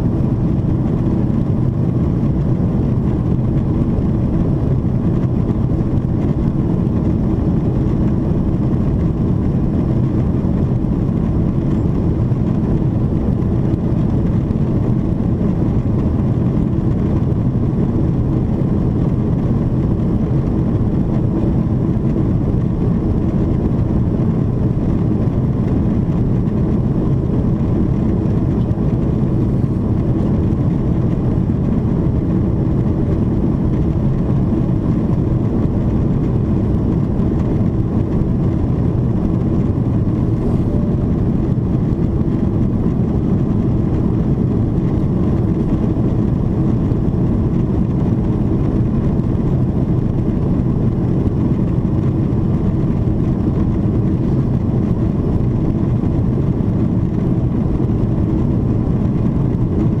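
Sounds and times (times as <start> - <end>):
airplane cabin engine noise: 0.0 - 60.0.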